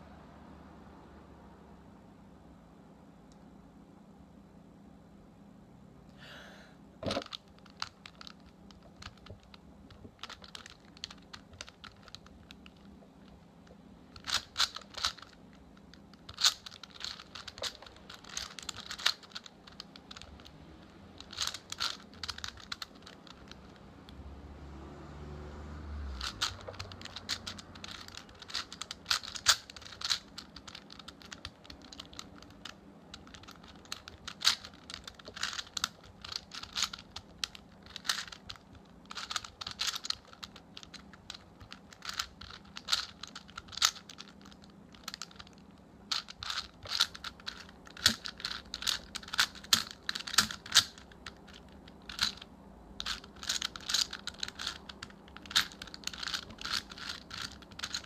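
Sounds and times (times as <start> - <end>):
puzzle cube clicking: 7.0 - 24.2, 26.1 - 58.0.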